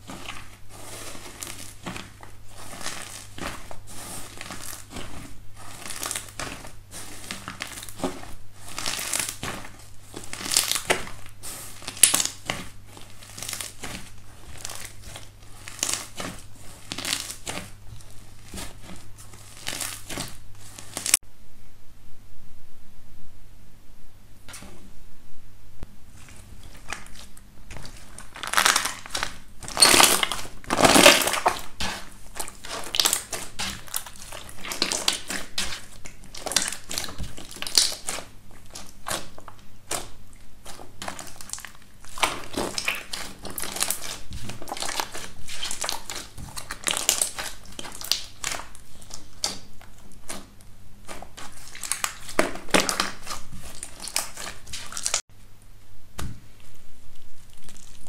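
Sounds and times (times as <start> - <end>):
slime crackling and popping: 0.0 - 21.2, 26.1 - 55.3, 57.2 - 58.0
slime layer cracking crunchily: 0.0 - 21.2, 26.2 - 55.3, 57.4 - 58.0.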